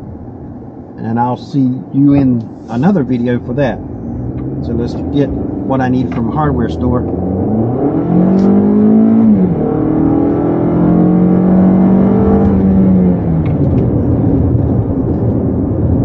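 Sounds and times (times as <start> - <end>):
road noise inside car: 0.0 - 16.0
car engine accelerating: 1.3 - 16.0.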